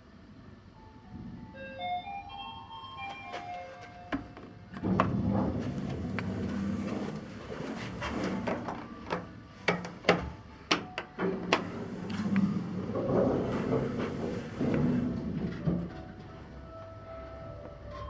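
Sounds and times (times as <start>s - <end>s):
elevator doors sliding: 1.7s - 18.0s.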